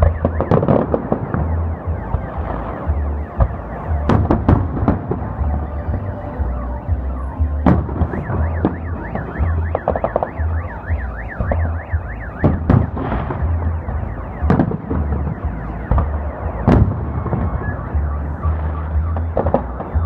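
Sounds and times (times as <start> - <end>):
car alarm warbling: 0.0 - 20.0
fireworks booming and crackling: 0.0 - 20.0.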